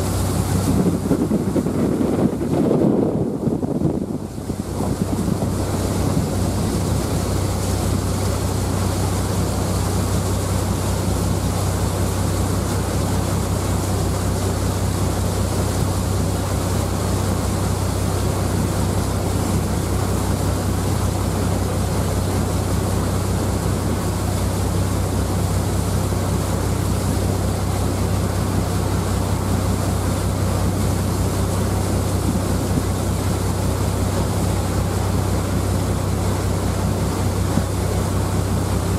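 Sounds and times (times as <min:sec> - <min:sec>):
wind and water rushing: 0:00.0 - 0:38.9.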